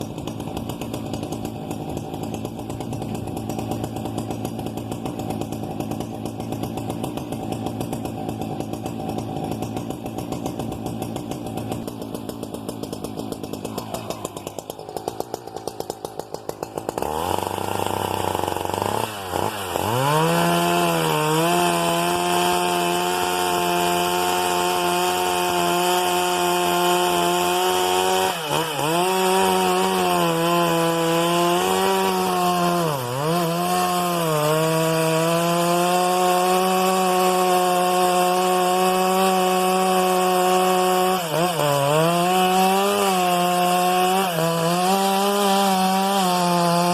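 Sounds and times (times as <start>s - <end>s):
chainsaw idling and revving: 0.0s - 46.9s.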